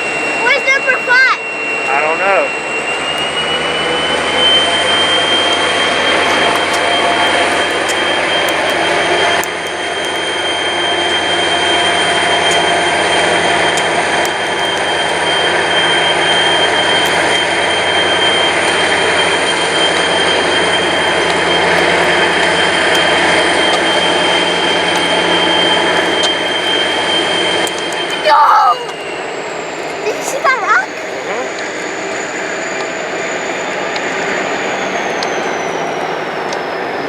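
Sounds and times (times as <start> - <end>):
high-pitched ringing tone: 0.0 - 37.0
train rumbling past: 0.0 - 37.0.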